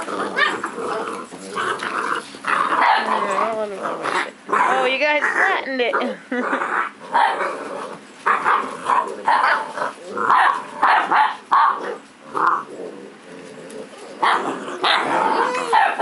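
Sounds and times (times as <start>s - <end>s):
puppies barking: 0.0s - 12.7s, 13.8s - 16.0s.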